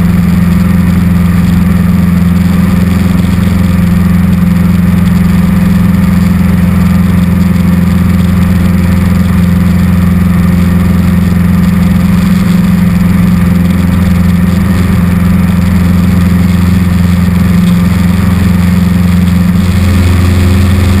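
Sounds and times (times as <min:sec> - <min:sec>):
aircraft engine droning in cockpit: 0:00.0 - 0:21.0.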